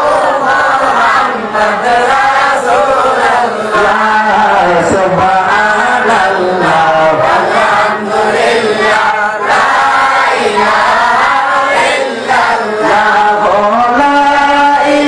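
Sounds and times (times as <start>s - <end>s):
man chanting into a microphone: 1.4s - 15.0s.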